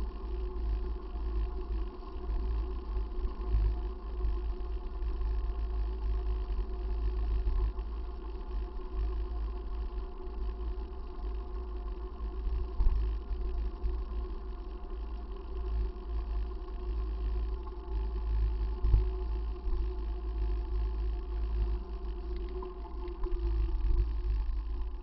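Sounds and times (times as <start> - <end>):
faint constant hum: 0.0 - 25.0.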